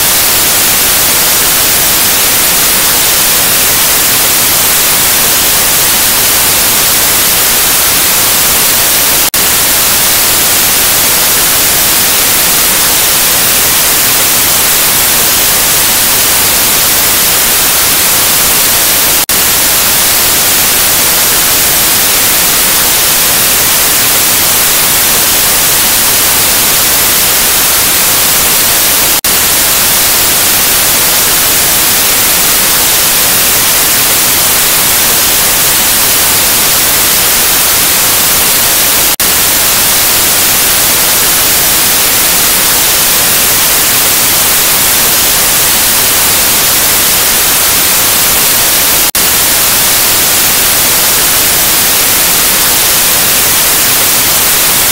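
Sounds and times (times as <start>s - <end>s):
tv static hiss: 0.0s - 54.9s.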